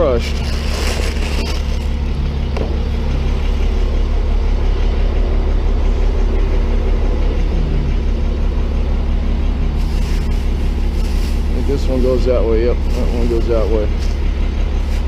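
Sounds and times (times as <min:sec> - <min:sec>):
tow truck engine running: 0:00.0 - 0:15.0.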